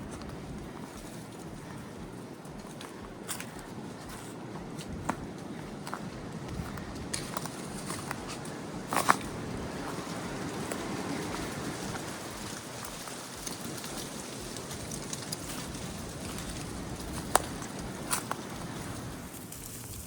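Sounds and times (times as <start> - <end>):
footsteps crunching on a trail: 0.0 - 20.0
steady rushing background: 0.0 - 20.0.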